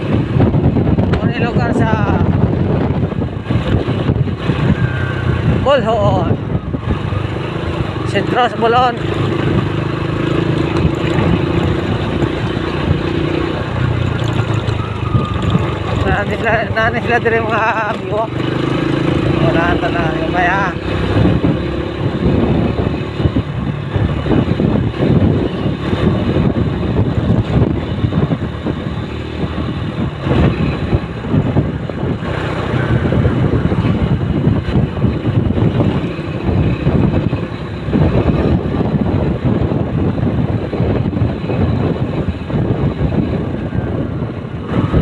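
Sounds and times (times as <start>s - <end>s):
vehicle road noise rumbling: 0.0s - 45.0s
wind buffeting microphone: 0.0s - 45.0s.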